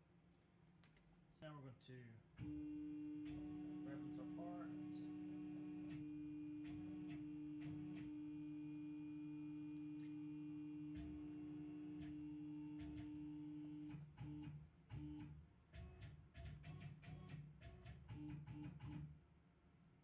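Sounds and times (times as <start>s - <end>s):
machine axis drive whining: 2.4s - 19.0s.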